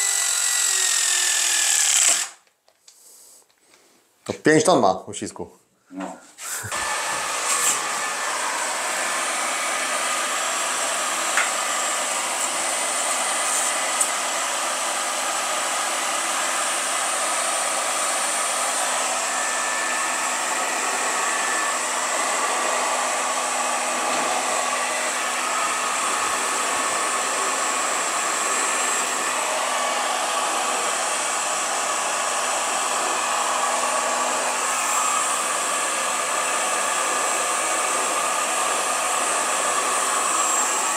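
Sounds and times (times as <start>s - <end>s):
heat gun fan blowing: 6.4s - 40.9s.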